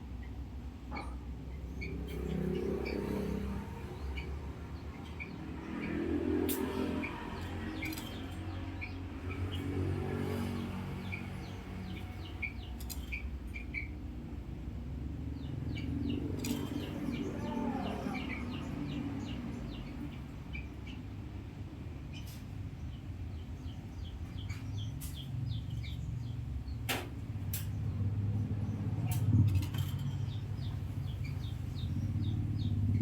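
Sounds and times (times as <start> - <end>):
bird chirping: 0.2 - 14.0, 15.3 - 21.2, 22.0 - 26.9, 27.6 - 33.0.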